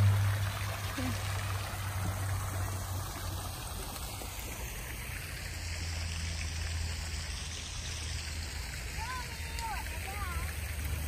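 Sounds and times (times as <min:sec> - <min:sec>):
low steady hum: 0:00.0 - 0:09.0
water running and trickling: 0:00.0 - 0:11.0.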